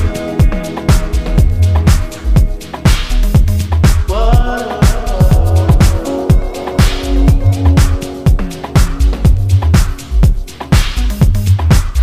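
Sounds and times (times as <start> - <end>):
bass line: 0.0 - 12.0
steady drum beat: 0.0 - 12.0
upbeat background music: 0.0 - 12.0.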